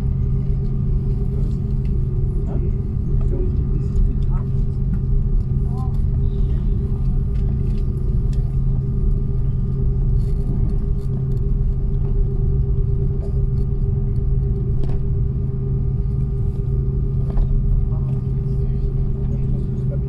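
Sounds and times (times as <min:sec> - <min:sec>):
constant hum: 0:00.0 - 0:20.0
engine and airflow rumble: 0:00.0 - 0:20.0.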